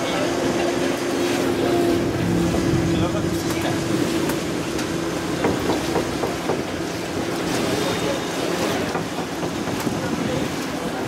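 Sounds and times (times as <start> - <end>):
boat engine humming: 0.0 - 11.0
water and wind rushing: 0.0 - 11.0.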